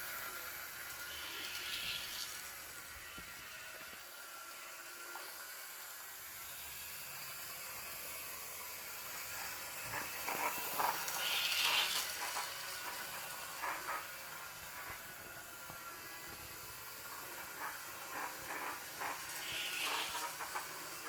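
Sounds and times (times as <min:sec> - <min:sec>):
model locomotive motor hum: 0:00.0 - 0:21.0.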